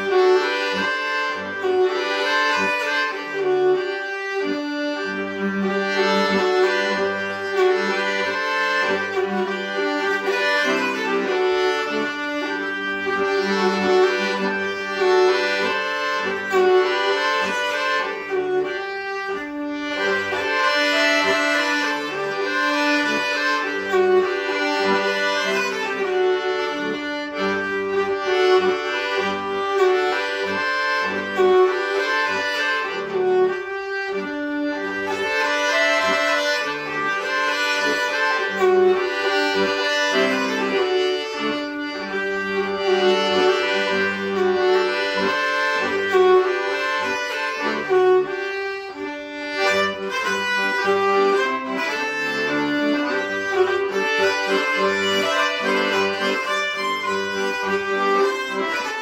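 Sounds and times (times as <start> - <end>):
accordion chords and bass: 0.0 - 59.0
bowed string melody: 0.0 - 59.0.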